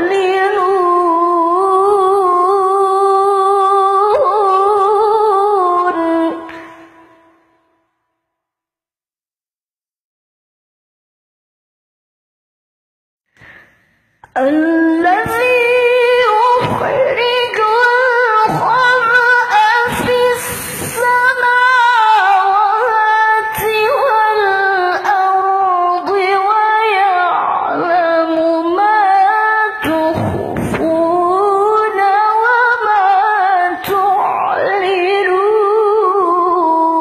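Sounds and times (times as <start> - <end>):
woman reciting melodically: 0.0 - 7.3, 14.2 - 37.0.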